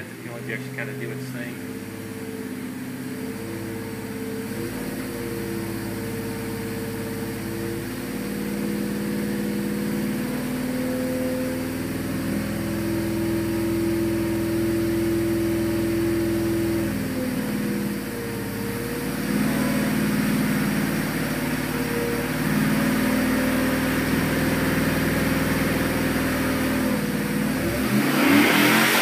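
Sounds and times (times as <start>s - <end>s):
v-eight engine revving: 0.0s - 29.0s.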